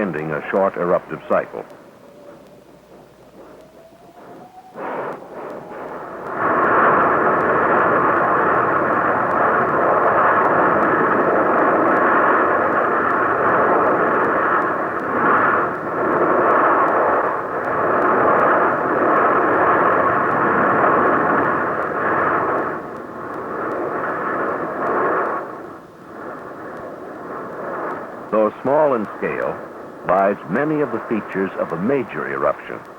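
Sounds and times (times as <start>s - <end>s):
rushing roar of erupting vent: 0.0s - 25.8s, 27.4s - 32.8s
old film soundtrack hiss: 0.0s - 32.9s.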